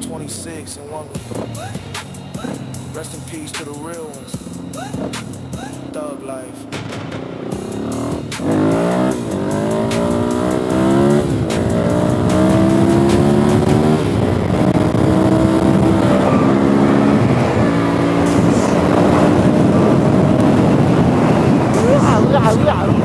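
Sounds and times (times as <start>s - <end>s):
dirt bike engine accelerating: 0.0s - 23.0s.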